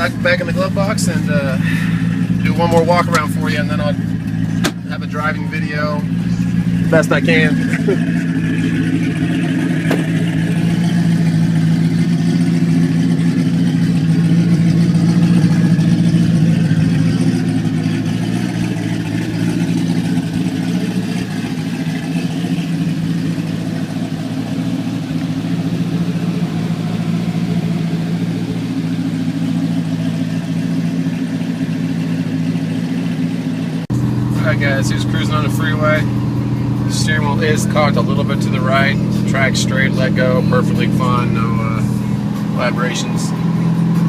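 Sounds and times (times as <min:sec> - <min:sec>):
engine running low drone: 0:00.0 - 0:44.0.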